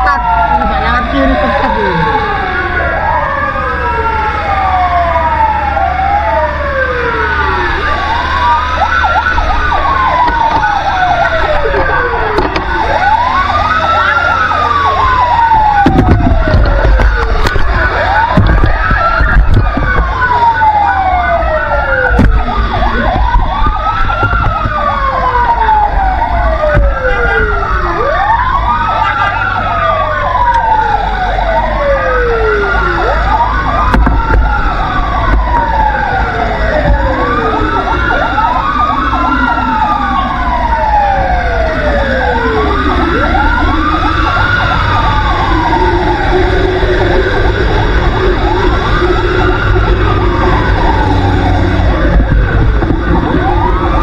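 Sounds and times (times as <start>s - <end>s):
engine and road rumble: 0.0s - 54.0s
fire truck sirens wailing: 0.0s - 54.0s.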